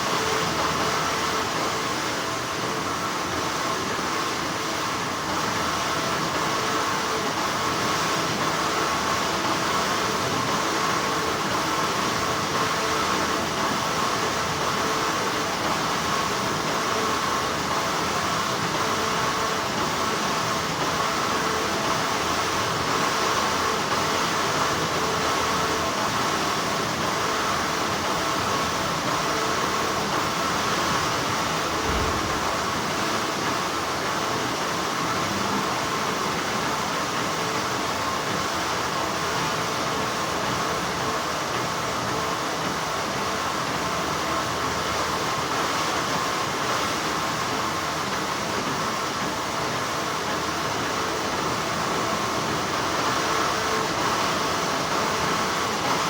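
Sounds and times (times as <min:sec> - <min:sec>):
factory machinery hum: 0:00.0 - 0:56.0
faint steady whine: 0:00.0 - 0:56.0.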